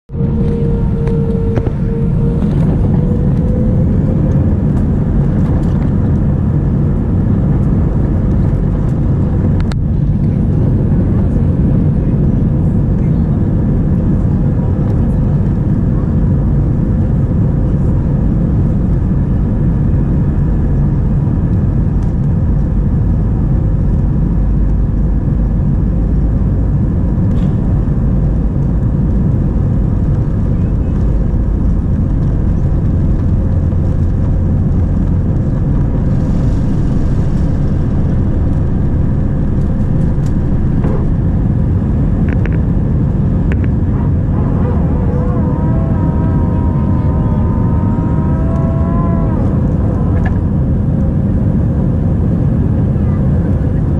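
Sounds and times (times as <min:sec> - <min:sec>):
jet engines loud drone in cabin: 0:00.0 - 0:53.9.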